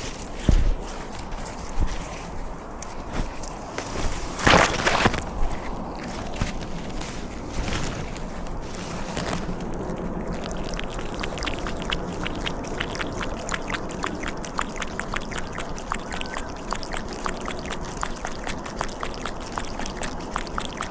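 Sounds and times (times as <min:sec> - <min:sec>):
water trickling and babbling: 0:00.0 - 0:20.9.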